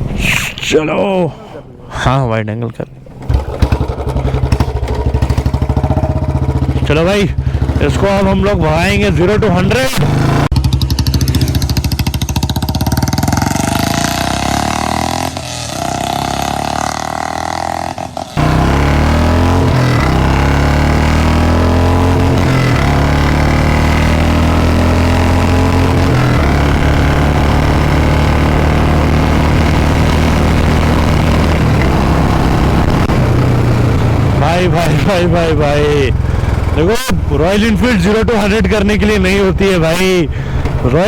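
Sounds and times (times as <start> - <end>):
motorcycle engine accelerating: 3.1 - 41.0.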